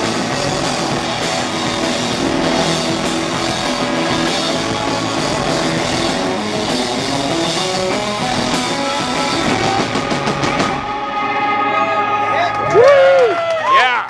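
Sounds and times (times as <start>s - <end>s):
drum kit: 0.0s - 11.7s
electric guitars: 0.0s - 14.0s.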